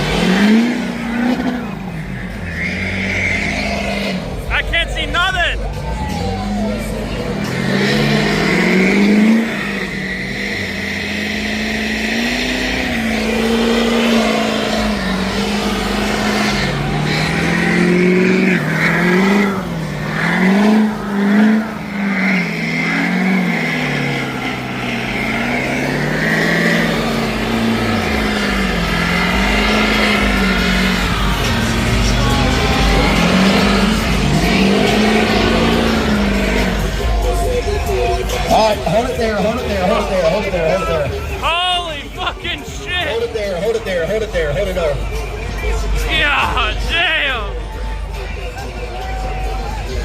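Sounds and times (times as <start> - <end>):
truck engines revving high: 0.0 - 50.0.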